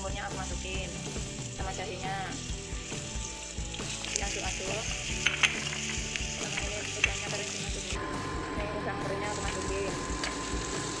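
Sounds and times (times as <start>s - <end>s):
mushrooms sizzling in oil: 0.0s - 11.0s.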